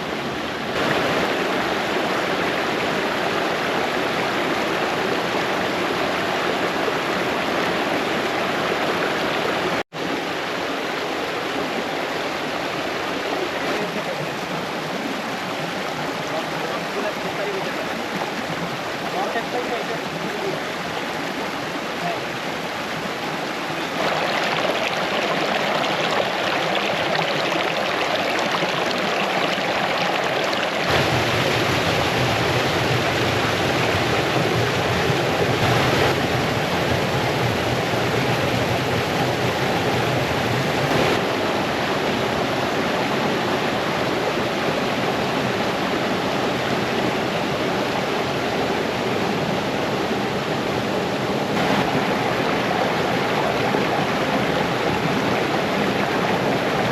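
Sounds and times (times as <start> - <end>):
brook cascading over stones: 0.0 - 56.9.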